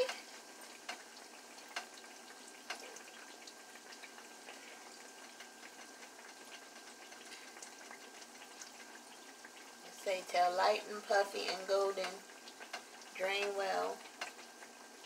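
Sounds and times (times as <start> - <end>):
dough deep-frying in oil: 0.0 - 15.0.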